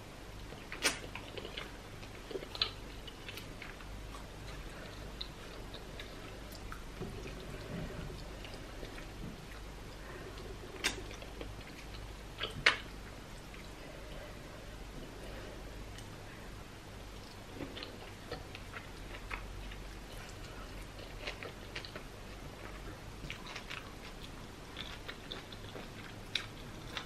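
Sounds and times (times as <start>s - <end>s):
person chewing and swallowing: 0.4s - 16.2s, 17.0s - 27.0s.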